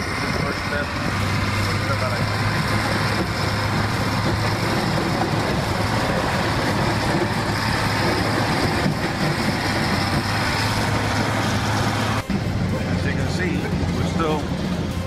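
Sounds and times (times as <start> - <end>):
blade scraping dirt road: 0.0 - 15.0
diesel engine running: 0.0 - 15.0.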